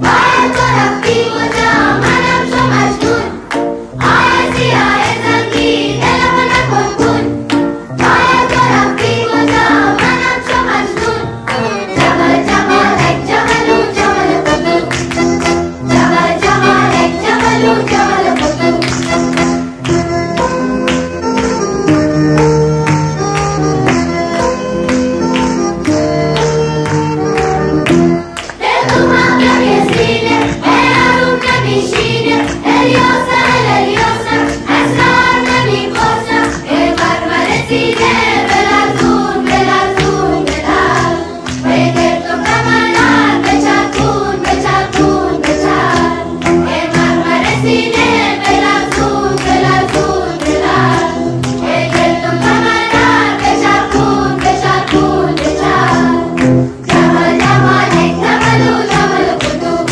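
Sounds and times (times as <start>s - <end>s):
chorus singing folk song: 0.0s - 20.6s, 25.3s - 59.9s.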